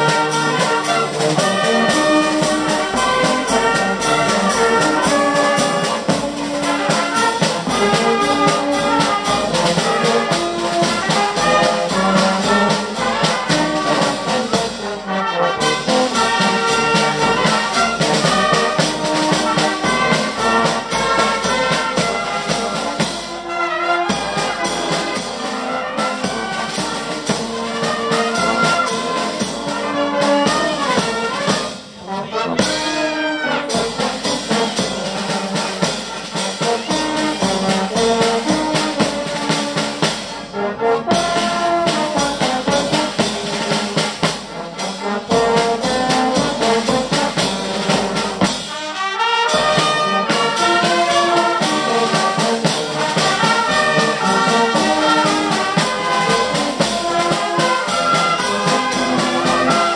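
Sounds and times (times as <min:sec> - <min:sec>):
drum beat: 0:00.0 - 0:14.9, 0:15.6 - 0:31.9, 0:33.7 - 0:48.8, 0:49.5 - 0:59.9
brass band playing: 0:00.0 - 0:59.9.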